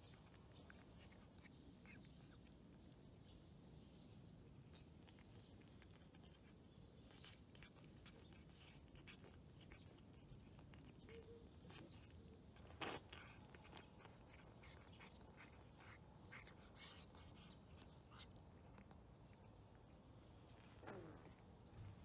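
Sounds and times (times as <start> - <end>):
cat chewing wet food: 0.0 - 22.0.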